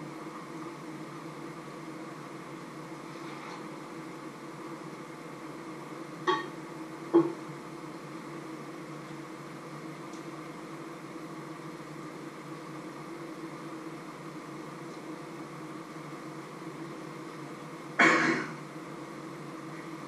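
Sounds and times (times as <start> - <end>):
appliance hum: 0.0 - 20.0.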